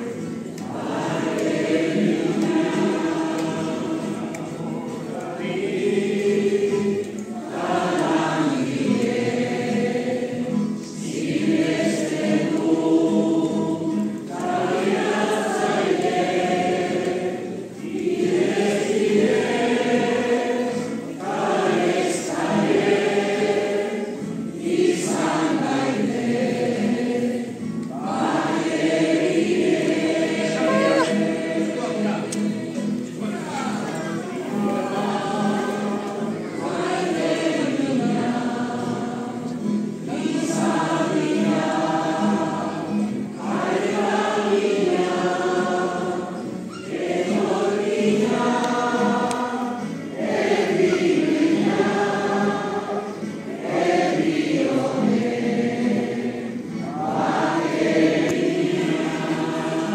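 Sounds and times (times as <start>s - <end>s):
congregation singing: 0.0s - 59.9s.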